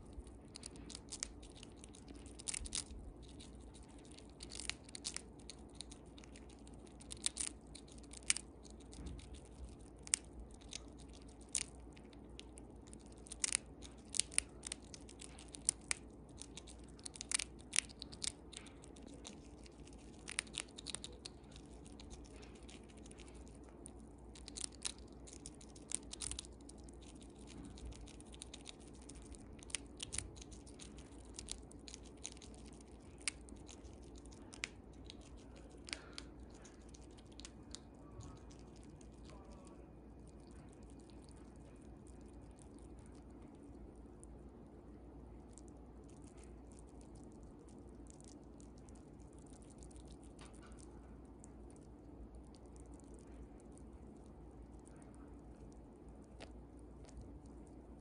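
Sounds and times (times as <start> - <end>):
chipmunk crunching a crisp chip: 0.0 - 58.0.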